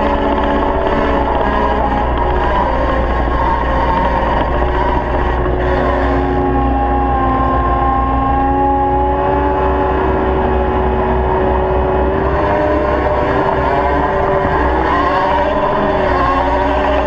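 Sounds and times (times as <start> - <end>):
track loader engine drone: 0.0 - 17.0.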